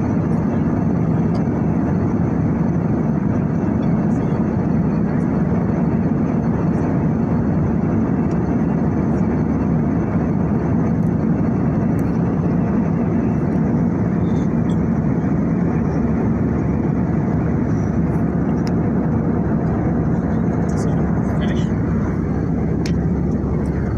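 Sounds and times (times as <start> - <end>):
airliner cabin engine drone: 0.0 - 23.9.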